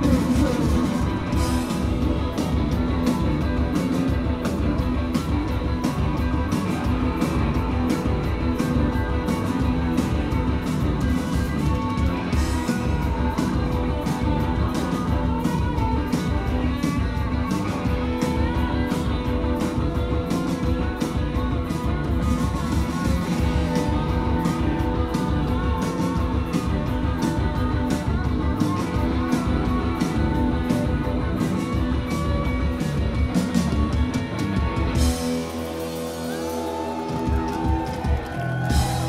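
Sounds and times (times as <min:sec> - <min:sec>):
bass guitar: 0:00.0 - 0:39.0
drums: 0:00.0 - 0:39.0
electric guitar: 0:00.0 - 0:39.0.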